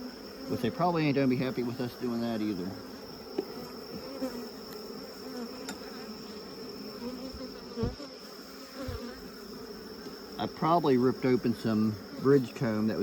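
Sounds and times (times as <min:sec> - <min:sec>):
honeybees buzzing loudly: 0:00.0 - 0:13.0.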